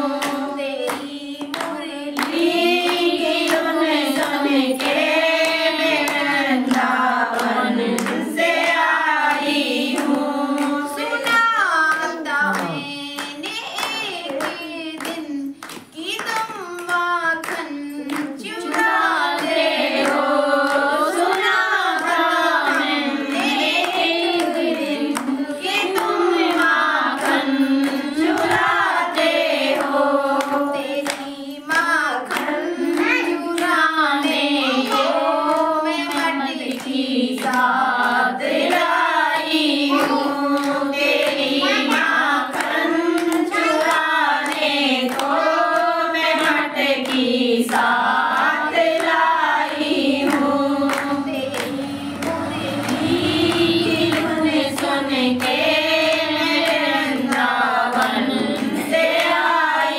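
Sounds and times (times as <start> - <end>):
hands clapping to the beat: 0.0 - 59.9
women singing: 0.0 - 59.9.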